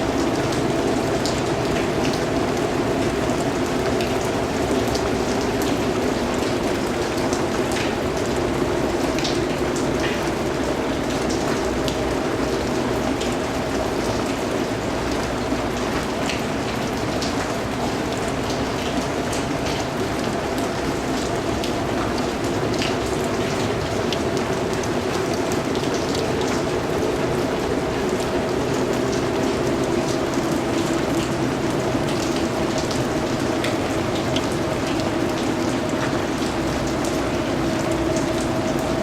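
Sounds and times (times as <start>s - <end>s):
raindrops ticking: 0.0s - 39.0s
steady rainfall hiss: 0.0s - 39.0s.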